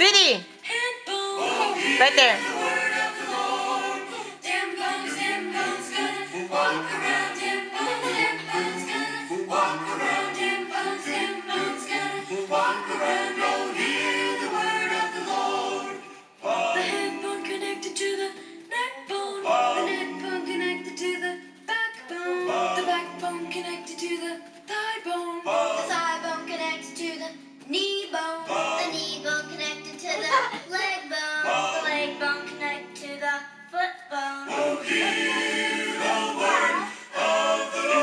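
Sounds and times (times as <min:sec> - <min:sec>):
song with singing over a beat: 0:00.6 - 0:29.7, 0:34.5 - 0:38.0.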